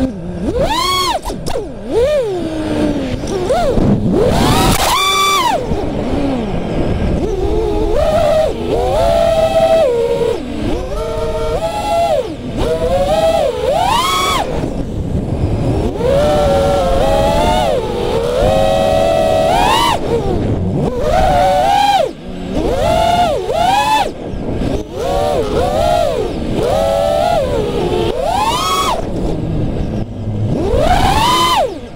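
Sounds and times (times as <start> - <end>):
drone motors whining: 0.0 - 31.9
wind rushing over microphone: 0.0 - 31.9.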